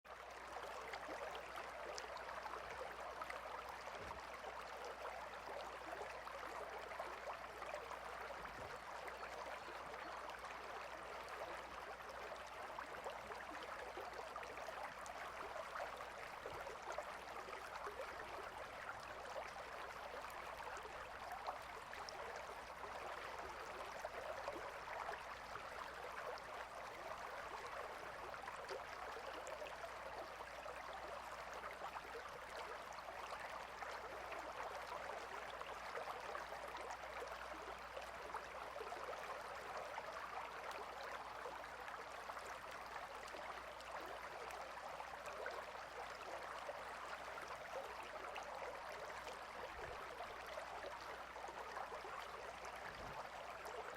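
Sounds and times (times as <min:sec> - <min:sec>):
river water flowing: 0:00.1 - 0:53.9.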